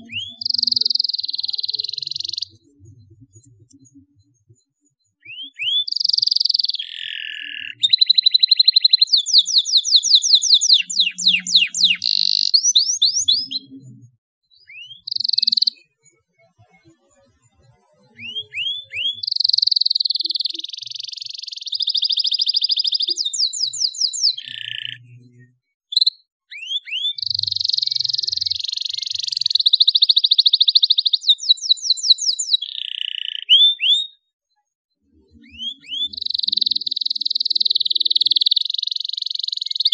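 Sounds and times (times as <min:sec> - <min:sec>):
canary singing: 0:00.0 - 0:16.2, 0:18.0 - 0:34.3, 0:35.1 - 0:39.9.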